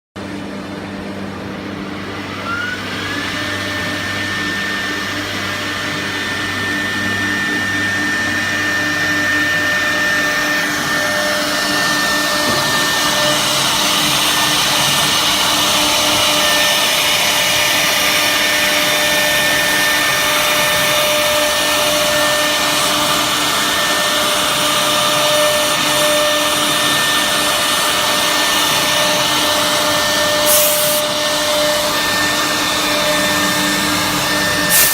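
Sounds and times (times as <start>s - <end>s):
router spindle whine: 0.2s - 34.9s.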